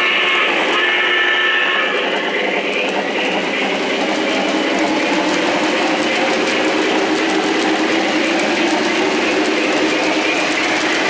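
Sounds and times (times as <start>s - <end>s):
model train cars rolling on track: 0.0s - 11.0s.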